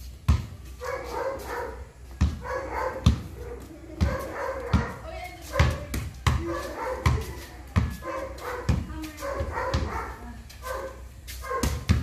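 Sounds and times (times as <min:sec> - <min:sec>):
basketball bouncing on concrete: 0:00.1 - 0:01.4, 0:02.0 - 0:12.0.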